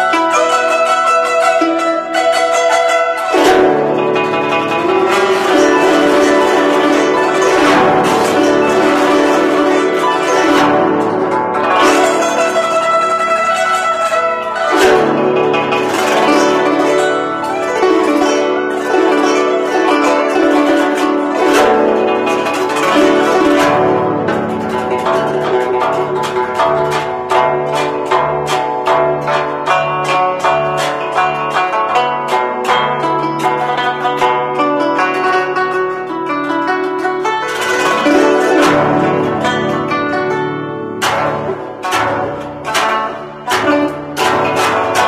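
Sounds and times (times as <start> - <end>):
plucked zither notes: 0.0 - 45.0.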